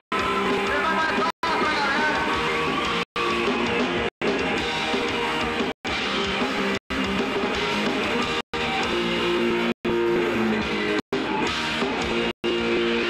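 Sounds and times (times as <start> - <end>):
live rock band: 0.0 - 13.0
electric guitar: 0.1 - 13.0.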